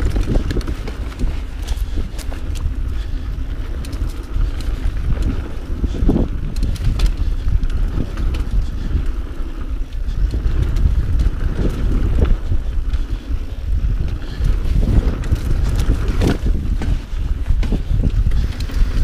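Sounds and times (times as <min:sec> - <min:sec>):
bike clicks and rattles: 0:00.0 - 0:19.0
tyres rumbling on dirt trail: 0:00.0 - 0:19.0
wind buffeting microphone: 0:00.0 - 0:19.0.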